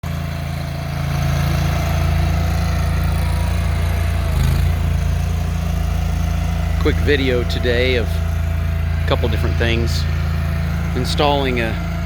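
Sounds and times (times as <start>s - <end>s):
construction machinery engine droning: 0.0s - 12.0s.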